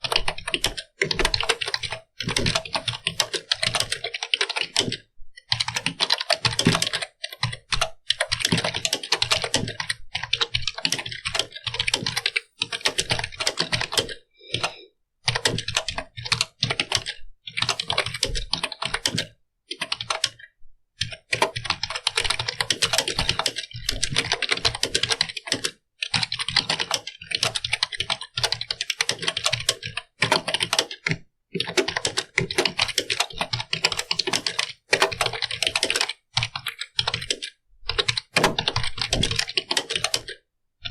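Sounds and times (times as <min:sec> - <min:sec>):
keyboard typing: 0:00.0 - 0:40.9.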